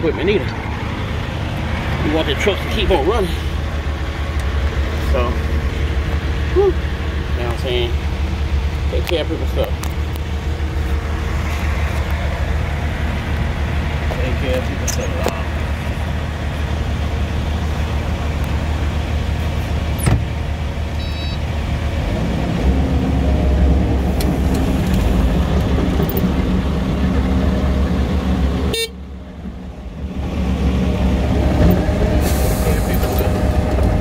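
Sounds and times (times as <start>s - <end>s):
track loader engine running: 0.0s - 34.0s.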